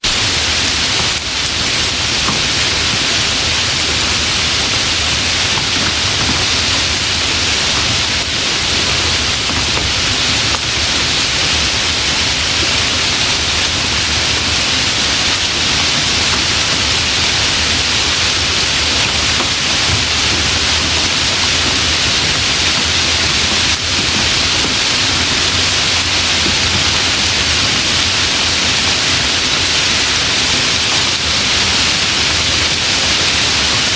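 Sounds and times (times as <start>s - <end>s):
light rain hissing: 0.1s - 33.9s.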